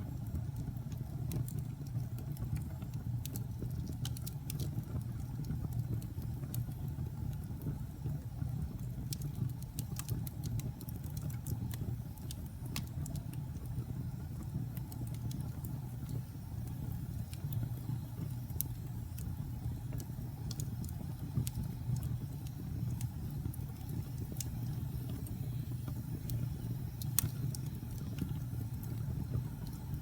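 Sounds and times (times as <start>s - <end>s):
low rumble of burning fire: 0.0s - 30.0s
wood fire pops and snaps: 0.0s - 30.0s.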